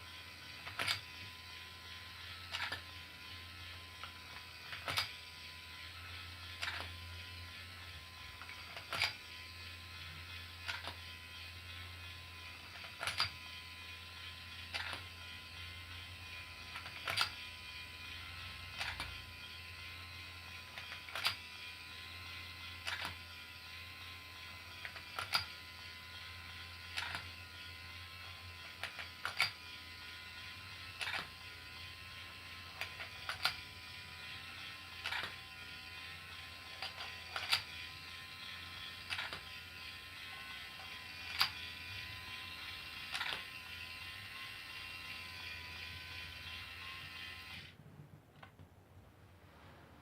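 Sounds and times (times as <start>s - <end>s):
small motor and gears whirring: 0.0s - 47.8s.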